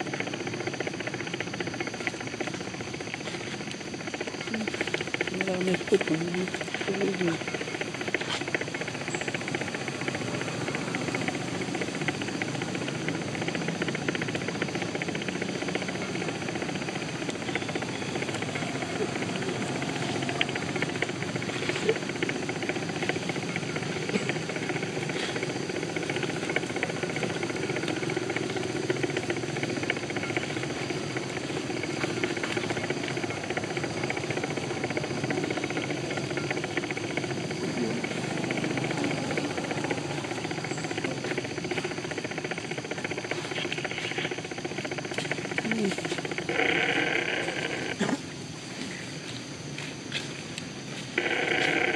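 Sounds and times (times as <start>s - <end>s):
steady hissing noise: 0.0s - 51.9s.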